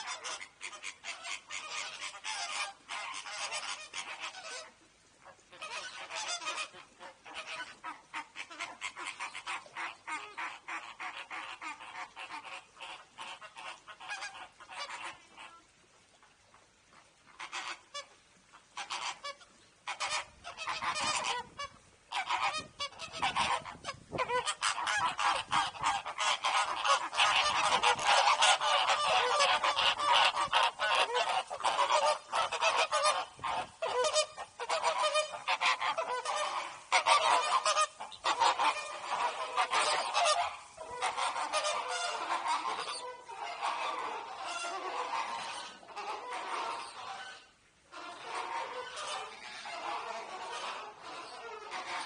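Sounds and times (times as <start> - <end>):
flamingos honking: 0.0 - 15.8, 16.9 - 52.0.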